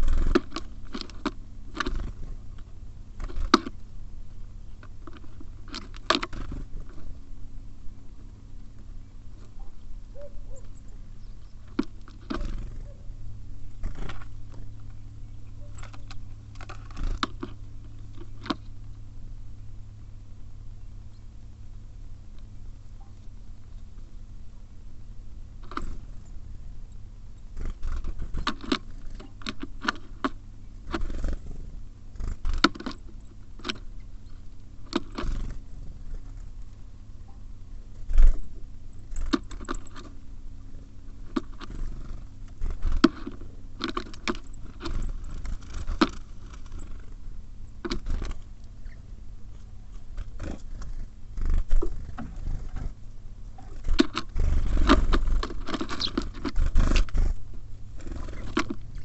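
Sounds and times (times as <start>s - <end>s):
birds pecking at a feeder: 0.0s - 59.0s.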